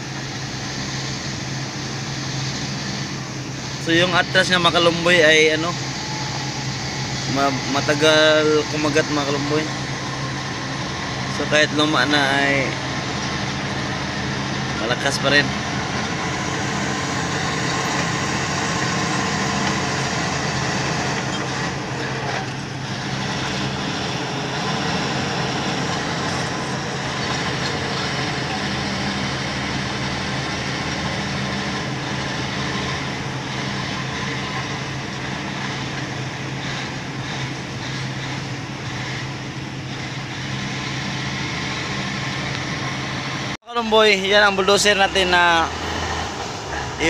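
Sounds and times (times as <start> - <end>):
bulldozer diesel engine running: 0.0 - 47.0.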